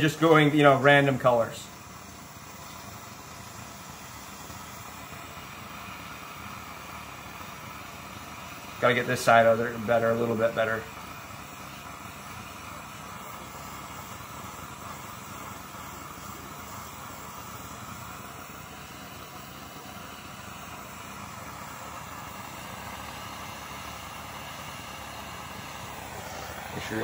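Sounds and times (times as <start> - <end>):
blowtorch flame hissing: 0.0 - 27.0.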